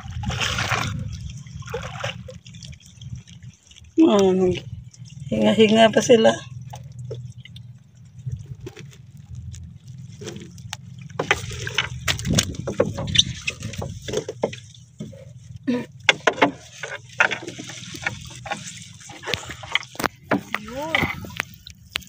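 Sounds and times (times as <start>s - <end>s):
steady low hum: 0.0s - 21.7s
water splashing and sloshing: 0.0s - 22.0s.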